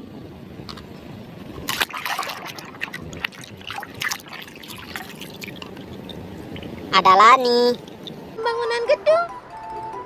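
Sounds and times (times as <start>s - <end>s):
water splashing and trickling: 0.7s - 8.8s.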